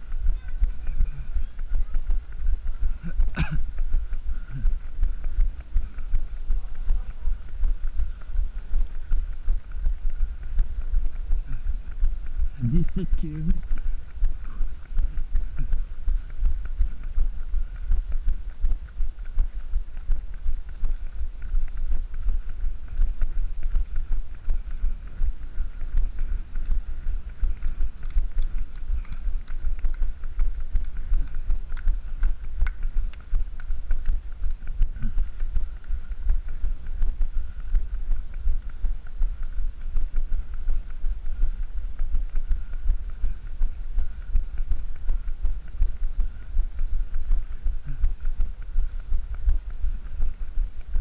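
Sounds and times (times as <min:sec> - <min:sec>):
running footsteps thumping: 0:00.0 - 0:51.0
wind rumble on microphone: 0:00.0 - 0:51.0.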